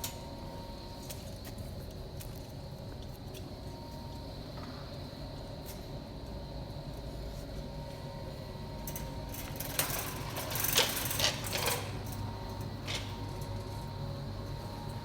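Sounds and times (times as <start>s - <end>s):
store background hum: 0.0s - 15.0s.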